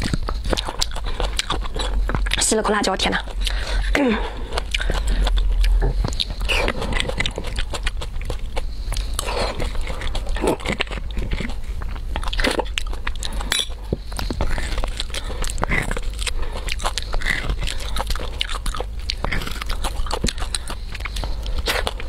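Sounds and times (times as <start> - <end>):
wet chewing and smacking: 0.0 - 22.0.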